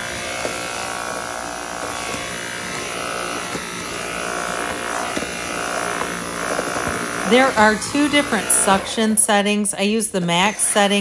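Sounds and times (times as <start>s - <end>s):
stick vacuum motor whining: 0.0s - 11.0s.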